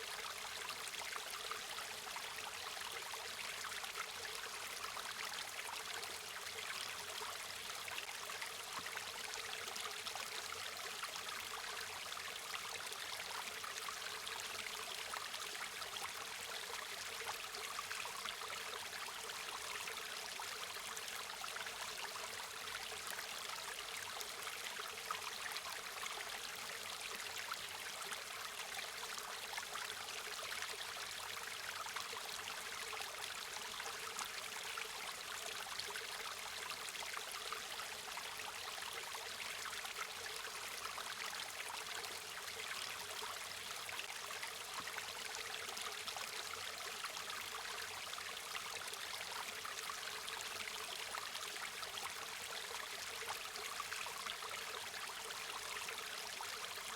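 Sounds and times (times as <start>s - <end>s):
stream flowing over stones: 0.0s - 56.9s.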